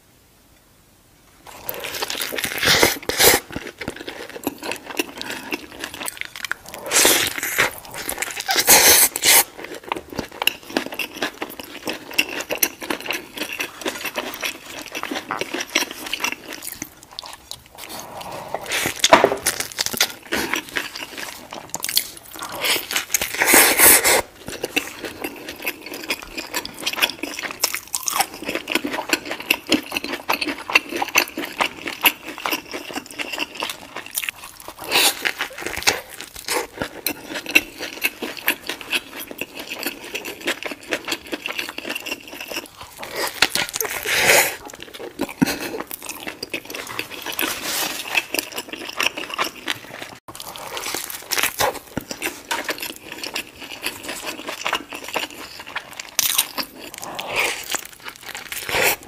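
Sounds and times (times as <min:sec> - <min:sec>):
person chewing crunchy food: 0:01.4 - 0:59.0.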